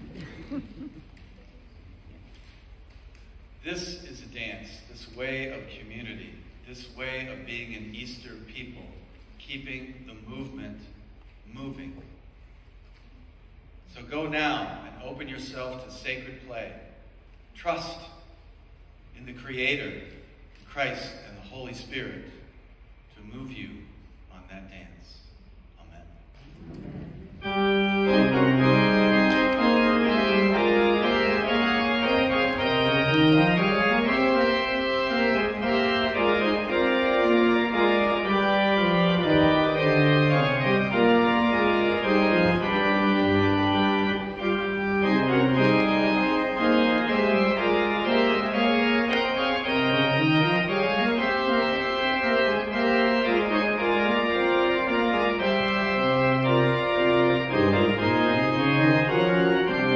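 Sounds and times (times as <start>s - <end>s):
organ playing sustained chords: 0.0s - 1.3s, 3.6s - 12.0s, 13.9s - 25.2s, 26.6s - 59.9s.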